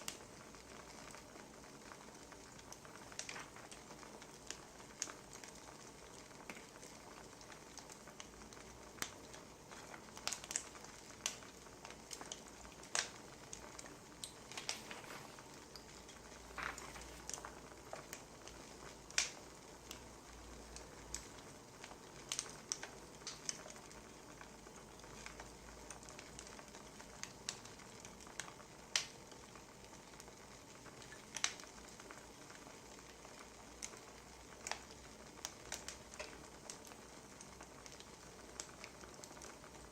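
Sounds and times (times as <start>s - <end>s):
firewood crackling and popping: 0.0s - 39.9s
soft steady hiss: 0.0s - 39.9s.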